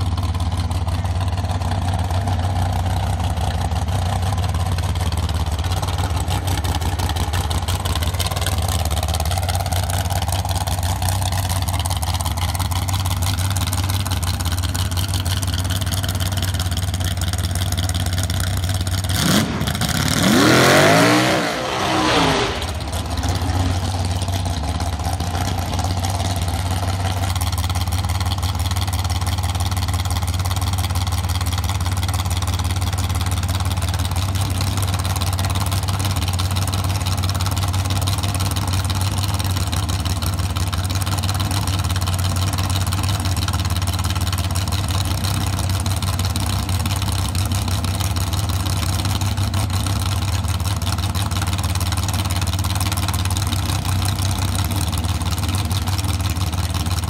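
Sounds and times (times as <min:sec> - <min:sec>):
dragster engine idling: 0:00.0 - 0:57.0.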